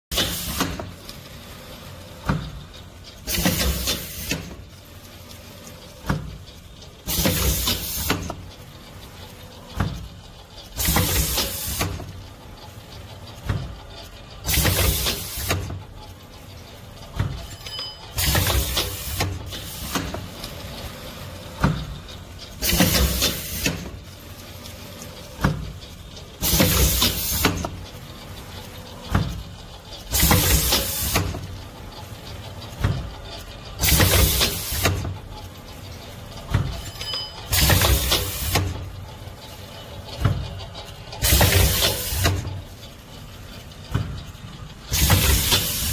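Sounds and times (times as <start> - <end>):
steady mechanical hum: 0.1 - 45.9.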